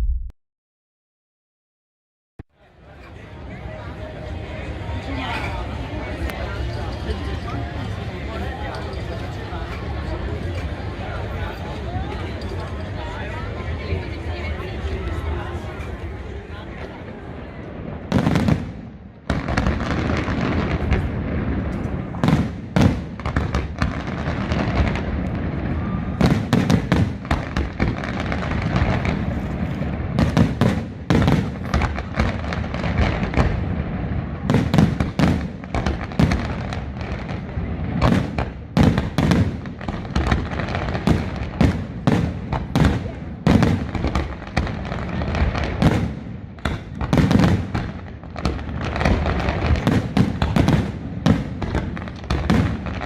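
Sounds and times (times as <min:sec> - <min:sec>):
fireworks rumble: 0:02.4 - 0:53.0
firework bangs and crackles: 0:02.8 - 0:53.0.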